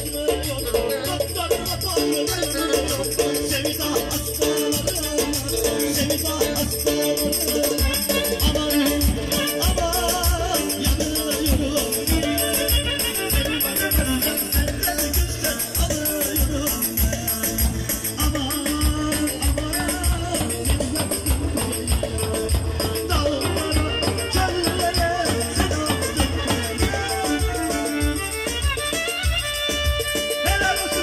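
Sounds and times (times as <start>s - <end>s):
person singing: 0.0s - 28.7s, 30.2s - 31.0s
bass drum beating: 0.0s - 31.0s.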